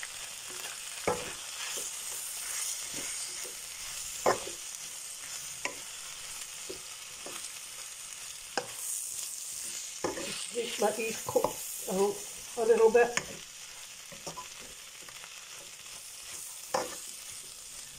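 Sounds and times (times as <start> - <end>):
vegetables sizzling in a pan: 0.0 - 17.9.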